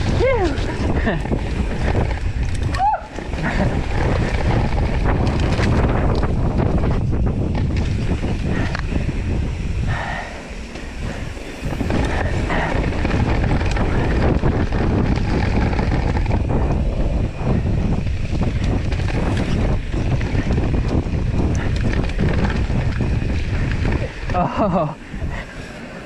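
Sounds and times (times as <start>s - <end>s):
bike knocks and rattles: 0.0s - 9.4s, 11.6s - 24.8s
tyres rumbling on dirt trail: 0.0s - 26.0s
wind buffeting microphone: 0.0s - 26.0s.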